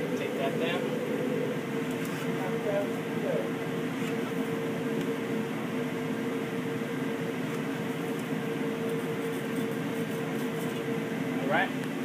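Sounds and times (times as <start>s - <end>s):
constant mid-pitched tone: 0.0s - 12.0s
kitchen machinery humming: 0.0s - 12.0s.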